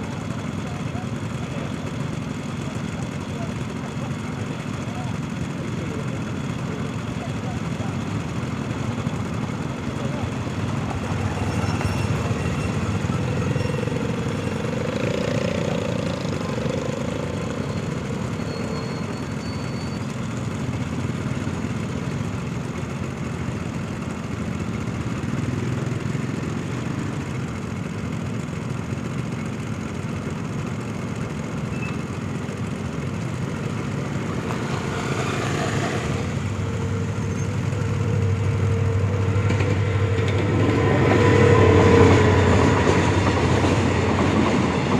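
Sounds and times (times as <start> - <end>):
diesel locomotive engine: 0.0 - 44.9.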